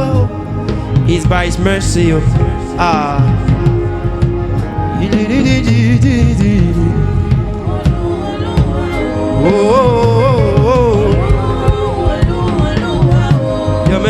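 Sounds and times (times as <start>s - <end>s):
gospel band playing: 0.0s - 14.0s
person singing: 0.0s - 14.0s.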